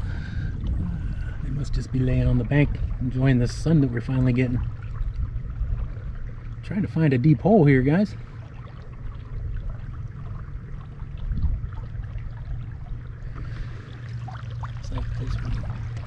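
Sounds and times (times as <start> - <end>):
boat engine humming: 0.0 - 16.0
water running along hull: 0.0 - 16.0.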